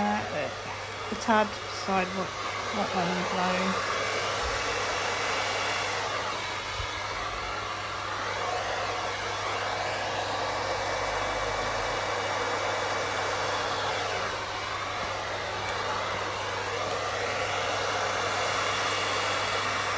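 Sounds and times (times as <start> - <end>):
hair dryer blowing: 0.0 - 19.9.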